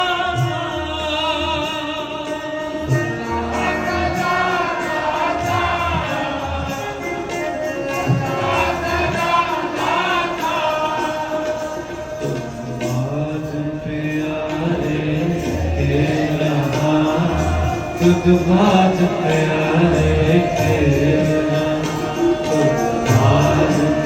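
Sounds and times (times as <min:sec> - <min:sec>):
devotional hymn singing: 0:00.0 - 0:24.0.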